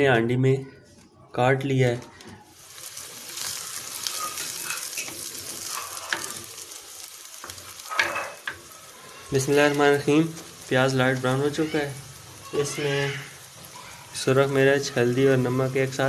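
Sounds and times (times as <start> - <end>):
onions sizzling in hot oil: 2.5 - 16.0.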